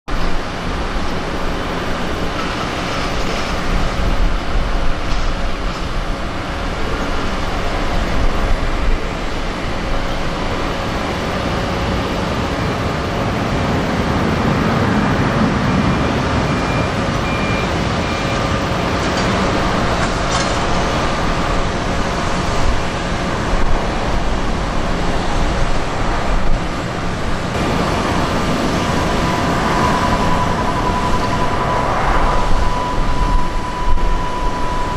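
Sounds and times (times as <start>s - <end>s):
faint engine whine: 0.1s - 34.9s
jet engine noise: 0.1s - 34.9s.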